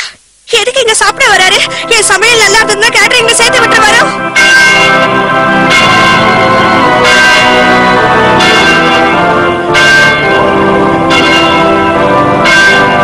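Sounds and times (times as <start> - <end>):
church bells pealing: 1.2 - 13.0.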